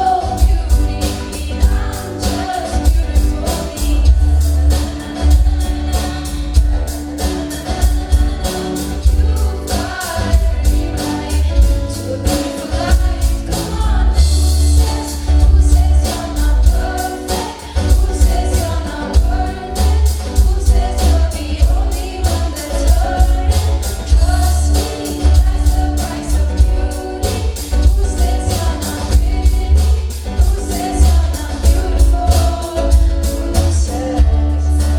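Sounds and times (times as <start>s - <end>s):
singing over heavy bass beat: 0.0s - 34.9s.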